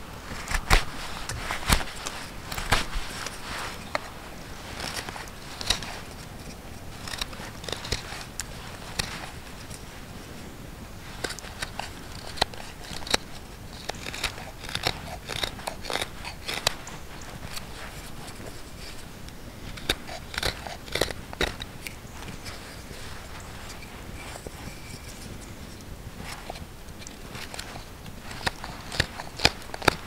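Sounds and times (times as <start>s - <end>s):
knife whittling wood: 0.3s - 9.9s, 11.1s - 30.0s.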